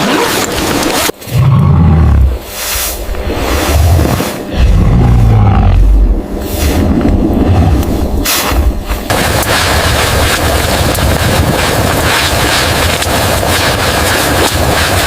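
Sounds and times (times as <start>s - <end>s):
dense rushing noise with crackles: 2.1s - 15.0s.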